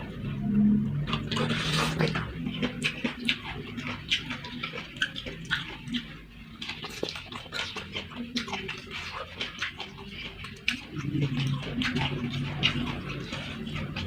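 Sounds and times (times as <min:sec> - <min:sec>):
wet chewing and lip-smacking: 0:00.0 - 0:14.0.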